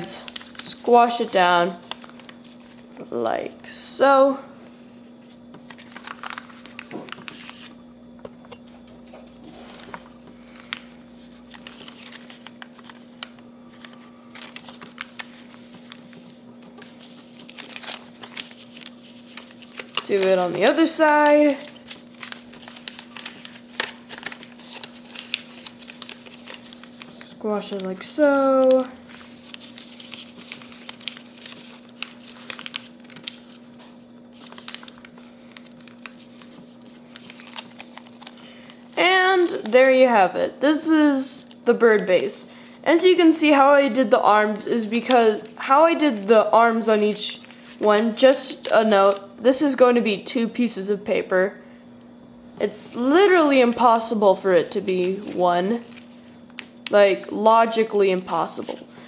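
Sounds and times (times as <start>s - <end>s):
paper rustling and crinkling: 0.0s - 3.4s, 4.7s - 7.8s, 8.6s - 39.8s, 41.4s - 49.4s, 52.9s - 59.0s
steady low hum: 0.0s - 59.0s.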